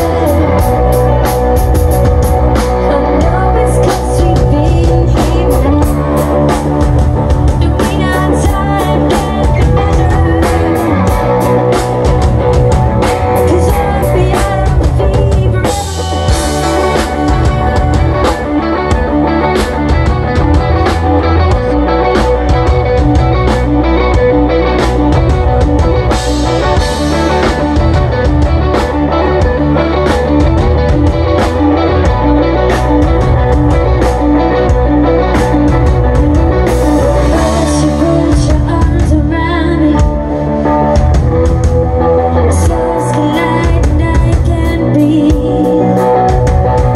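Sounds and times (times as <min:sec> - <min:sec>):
drum kit: 0:00.0 - 0:46.9
electric guitar: 0:00.0 - 0:46.9
rock band playing: 0:00.0 - 0:46.9.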